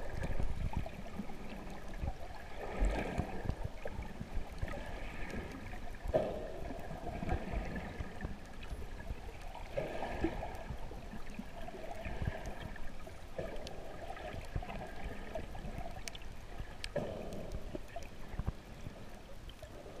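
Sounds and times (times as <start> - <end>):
muffled underwater water noise: 0.0 - 20.0.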